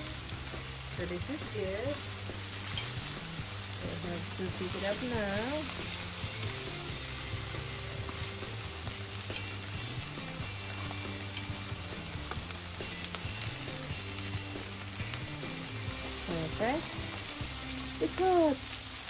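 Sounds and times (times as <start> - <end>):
food sizzling on a grill: 0.0 - 19.0.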